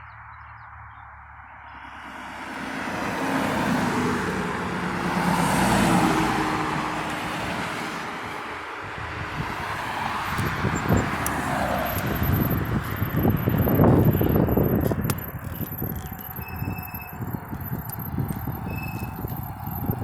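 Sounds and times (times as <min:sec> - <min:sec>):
vehicle passing by: 0:01.8 - 0:20.0.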